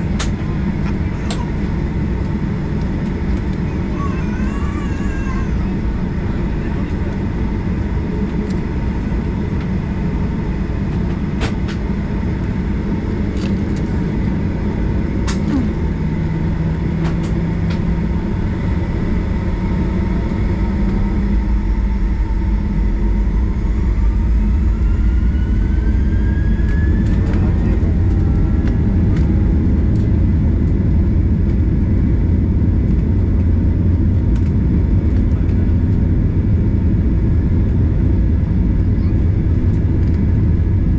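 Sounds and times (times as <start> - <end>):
jet engines rumbling: 0.0 - 40.9
rising engine whine: 0.0 - 40.9.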